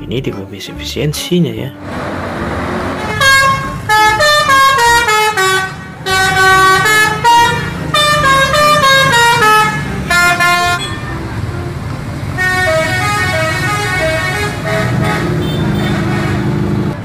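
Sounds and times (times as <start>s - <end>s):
engine and traffic noise: 1.7s - 17.0s
bus musical horn melodies: 1.8s - 17.0s.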